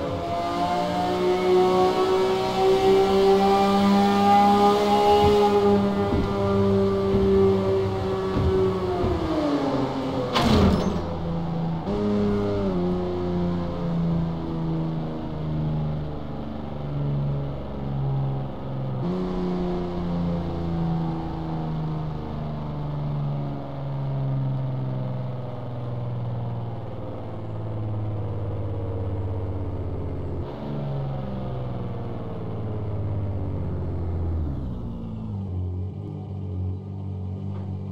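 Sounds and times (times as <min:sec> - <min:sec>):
car engine in a tunnel: 0:00.0 - 0:37.9.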